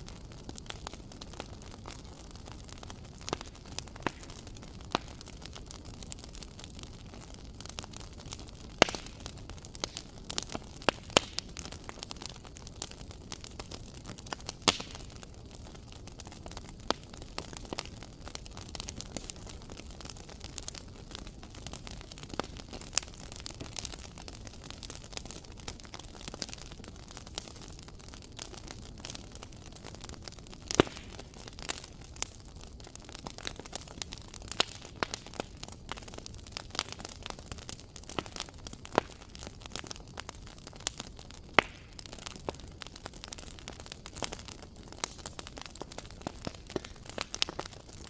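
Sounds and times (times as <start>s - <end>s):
low hiss of fire: 0.0s - 48.0s
wood fire snapping and popping: 0.0s - 48.0s.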